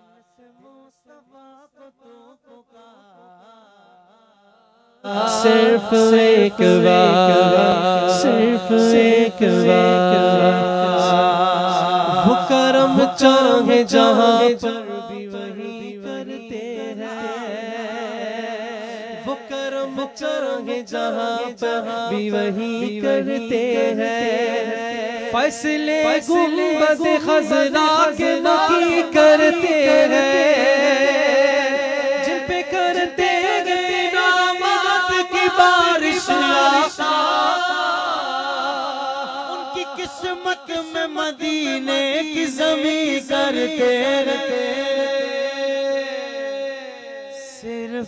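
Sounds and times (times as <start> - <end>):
voices singing devotional song: 5.0 - 48.0.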